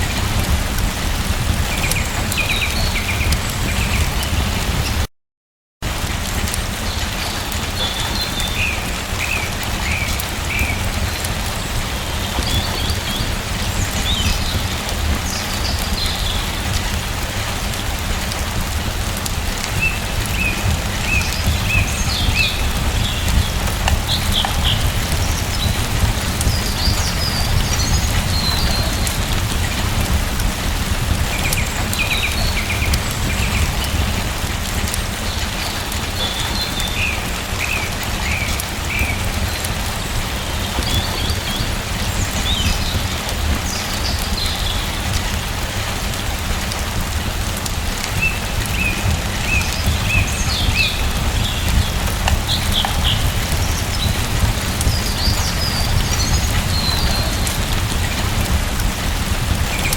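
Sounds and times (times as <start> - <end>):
steady rain: 0.0 - 5.1, 5.8 - 59.9
small birds chirping: 6.9 - 17.9, 19.6 - 45.5, 48.1 - 59.9.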